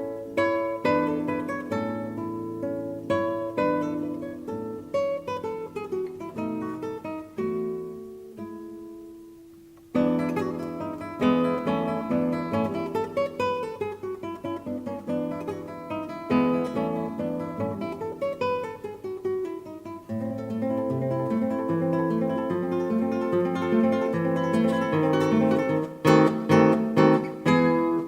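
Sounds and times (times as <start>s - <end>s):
acoustic guitar plucked and strummed: 0.0s - 28.0s.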